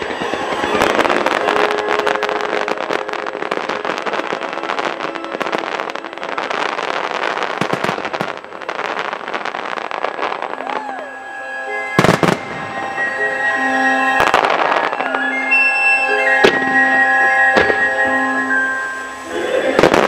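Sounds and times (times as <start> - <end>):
firework bursts and crackle: 0.0 - 20.0.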